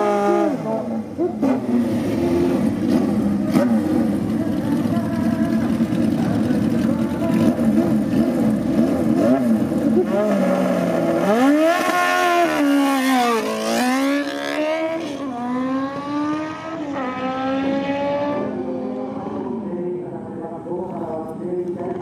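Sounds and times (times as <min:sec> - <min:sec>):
motorcycle engine revving and accelerating: 0:00.0 - 0:19.7.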